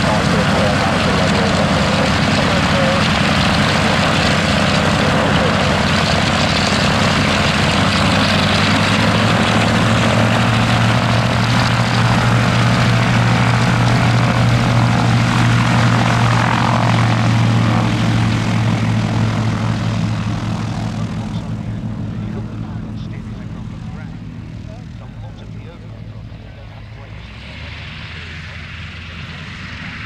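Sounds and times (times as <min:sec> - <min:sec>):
aircraft propeller engines droning: 0:00.0 - 0:30.0.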